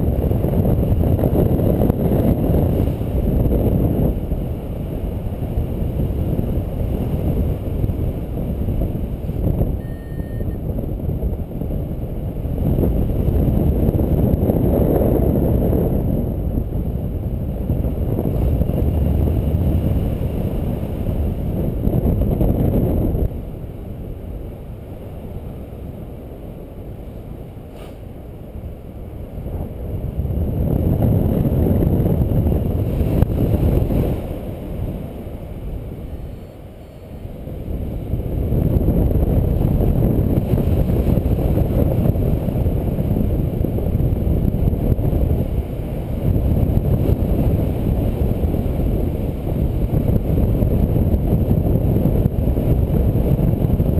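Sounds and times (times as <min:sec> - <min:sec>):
wind rumbling on microphone: 0:00.0 - 0:53.9.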